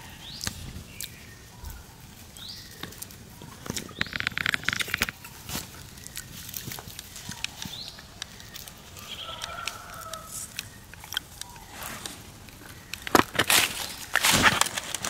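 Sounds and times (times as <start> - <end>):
dry leaves crackling and rustling: 0.0 - 15.0.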